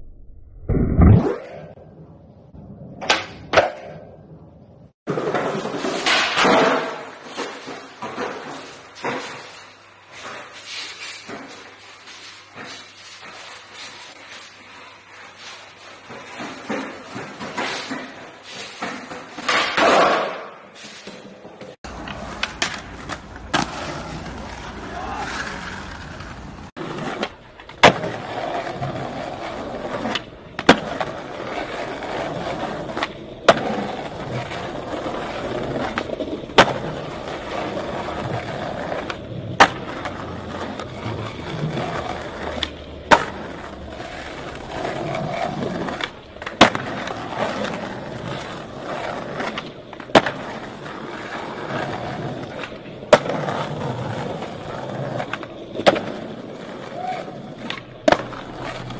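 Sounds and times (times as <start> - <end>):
skateboard wheels rolling: 1.2 - 58.9
skateboard clacking on ground: 5.1 - 58.9.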